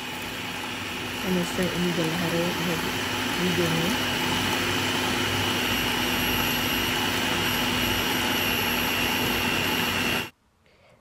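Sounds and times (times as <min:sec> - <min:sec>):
food processor grinding: 0:00.0 - 0:10.3.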